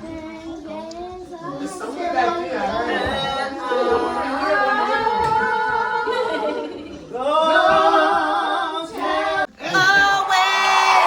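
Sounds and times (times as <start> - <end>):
voices singing a cappella: 0.0 - 11.0.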